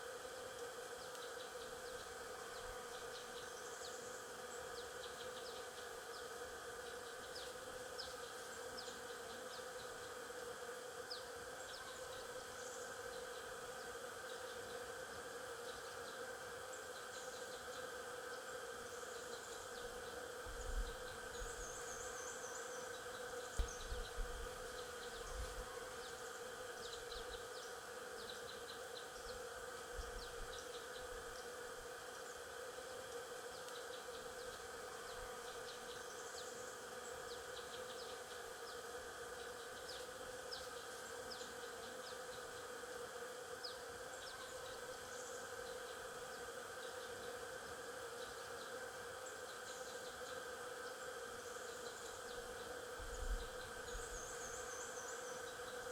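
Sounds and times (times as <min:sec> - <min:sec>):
bees buzzing: 0:00.0 - 0:55.9.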